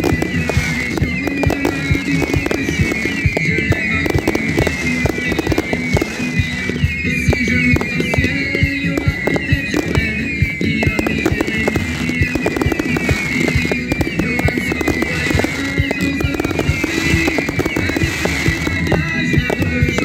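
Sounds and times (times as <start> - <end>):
fireworks bangs and crackles: 0.0 - 20.0
loud music: 0.0 - 20.0.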